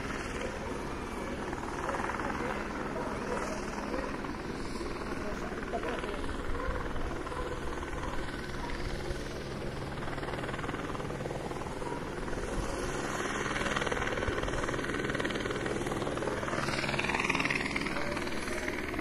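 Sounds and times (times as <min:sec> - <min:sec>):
helicopter rotor drone: 0:00.0 - 0:19.0.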